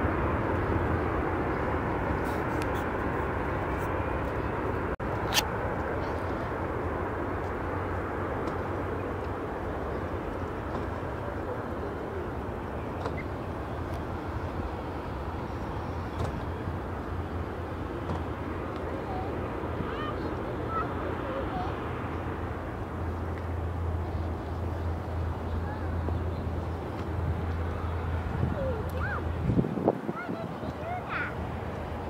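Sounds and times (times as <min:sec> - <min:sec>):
aircraft engines rumbling: 0:00.0 - 0:32.0.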